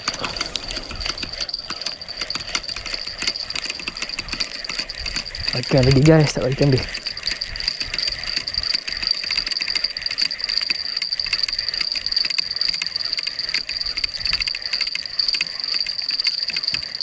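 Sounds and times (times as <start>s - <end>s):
fishing reel clicks and rattles: 0.0s - 17.0s
insects droning: 0.0s - 17.0s.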